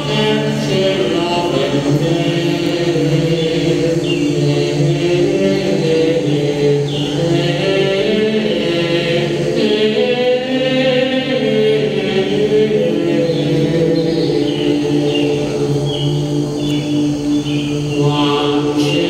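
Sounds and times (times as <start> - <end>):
choral chant with held voices: 0.0 - 19.0.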